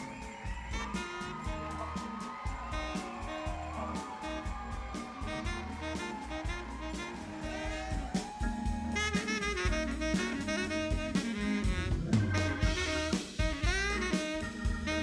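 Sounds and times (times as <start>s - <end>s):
drum kit steady beat: 0.0s - 15.0s
saxophone melody: 0.0s - 15.0s.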